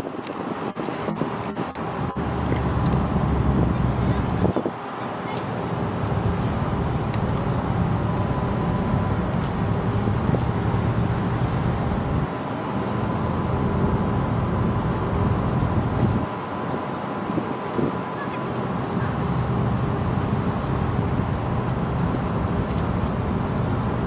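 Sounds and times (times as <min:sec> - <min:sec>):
ship engines rumbling: 0:00.0 - 0:24.0.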